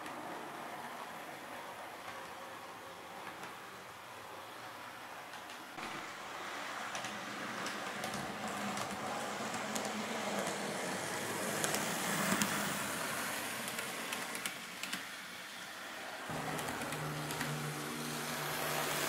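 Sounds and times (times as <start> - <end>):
model train whirring: 0.1 - 19.0.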